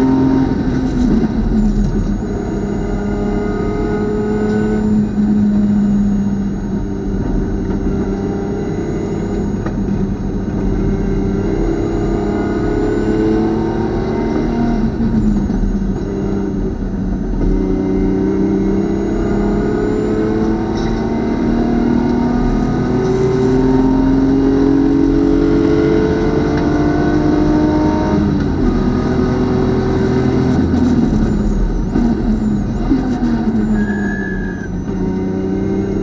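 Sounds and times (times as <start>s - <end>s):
race car engine accelerating: 0.0s - 36.0s.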